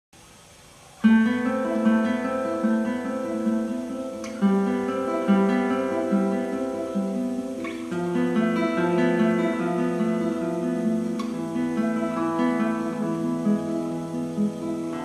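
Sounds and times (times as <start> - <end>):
fingerstyle classical guitar: 1.0 - 15.0.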